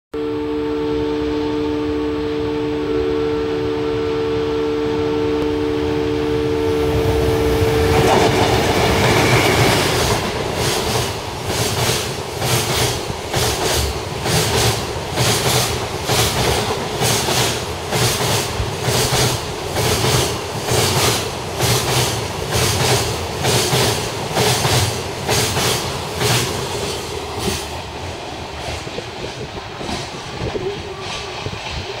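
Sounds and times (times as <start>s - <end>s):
locomotive rushing past: 5.4s - 32.0s.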